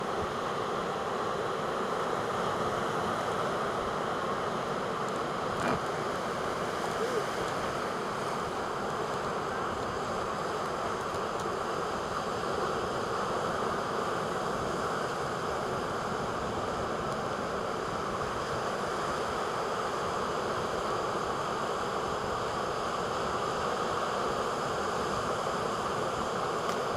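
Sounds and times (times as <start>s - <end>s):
wind: 0.0s - 26.9s.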